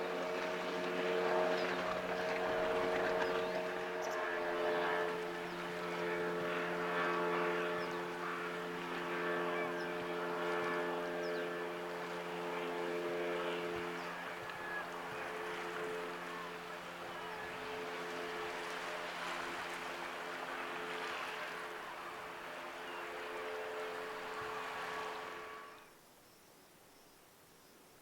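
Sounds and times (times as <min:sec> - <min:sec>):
boat engine running: 0:00.0 - 0:25.9.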